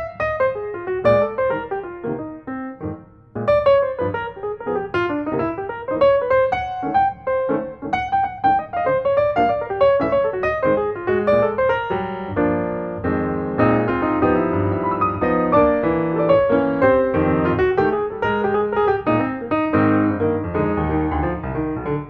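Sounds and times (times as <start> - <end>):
piano music with quick notes: 0.0 - 22.0.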